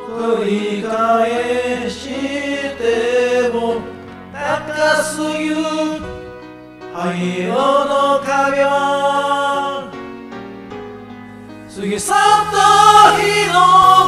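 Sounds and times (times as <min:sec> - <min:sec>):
voices singing in unison: 0:00.0 - 0:06.3, 0:06.9 - 0:10.0, 0:11.6 - 0:14.0
karaoke backing track: 0:00.0 - 0:14.0.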